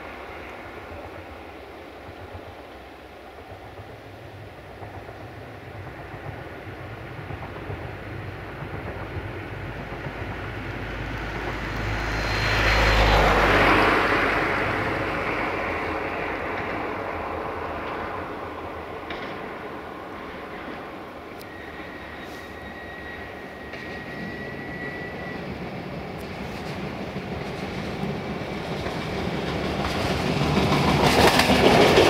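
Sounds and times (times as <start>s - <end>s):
diesel train passing: 0.0s - 32.0s.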